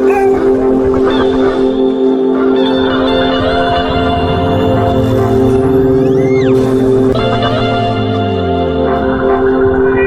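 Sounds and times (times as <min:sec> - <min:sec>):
droning music bed: 0:00.0 - 0:10.0.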